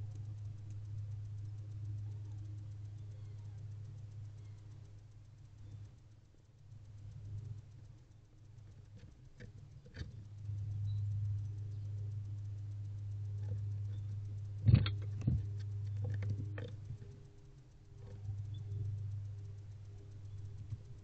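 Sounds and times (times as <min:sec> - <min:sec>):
low steady hum: 0:00.0 - 0:21.0
owls scratching and tapping: 0:00.0 - 0:21.0.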